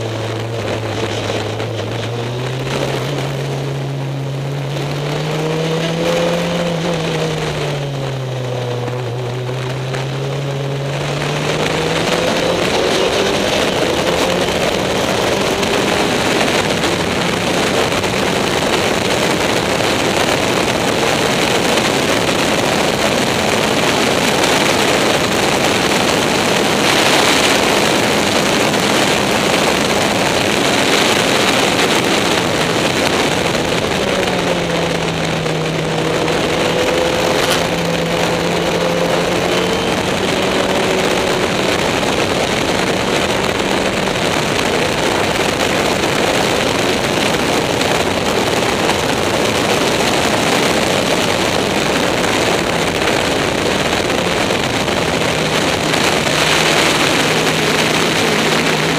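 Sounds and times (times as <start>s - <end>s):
race car engine and wind rush: 0.0s - 58.9s.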